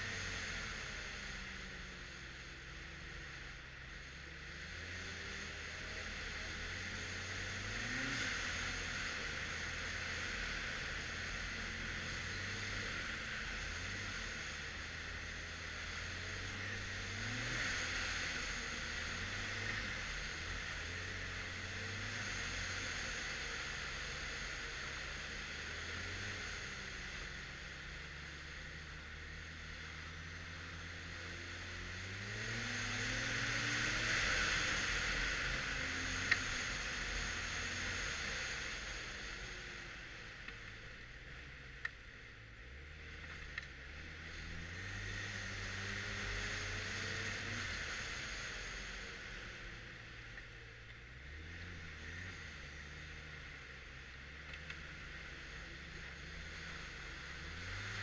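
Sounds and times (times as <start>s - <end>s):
snowmobile engine revving: 4.0s - 41.5s, 42.9s - 58.0s.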